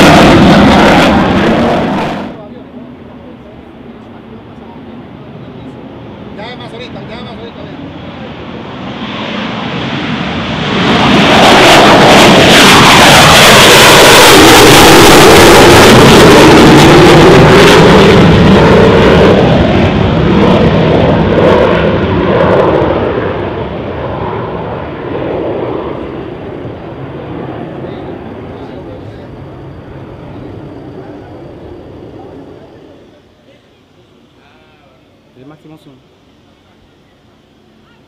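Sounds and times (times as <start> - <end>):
fighter jet taking off: 0.0 - 37.8.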